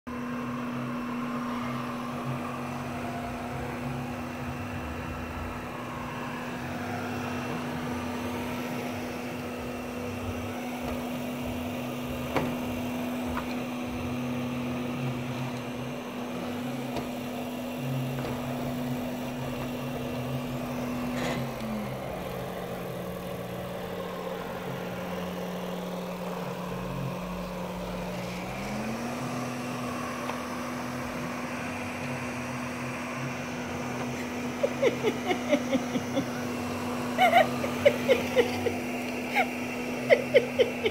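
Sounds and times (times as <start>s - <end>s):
robot vacuum motor hum: 0.1s - 40.9s.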